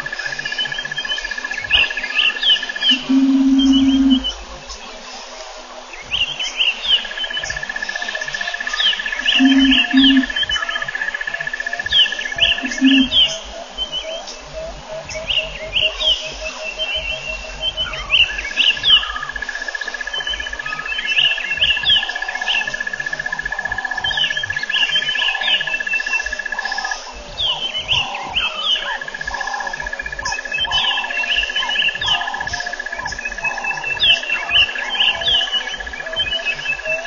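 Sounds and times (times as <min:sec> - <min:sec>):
steady high bird trill: 0:00.0 - 0:04.4, 0:06.0 - 0:37.0
lower repeating bird call: 0:00.0 - 0:04.9, 0:05.9 - 0:37.0
birds chirping: 0:00.0 - 0:37.0.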